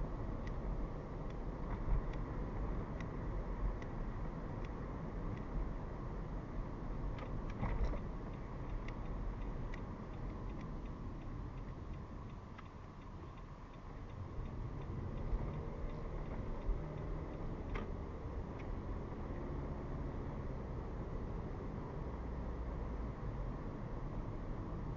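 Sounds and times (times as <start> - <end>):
car road and engine rumble: 0.0 - 24.9
turn signal ticking: 0.1 - 21.9.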